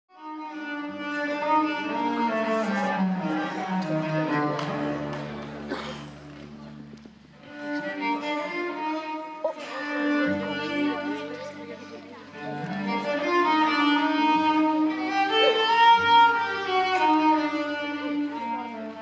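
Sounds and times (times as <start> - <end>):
bowed strings music: 0.1 - 19.0.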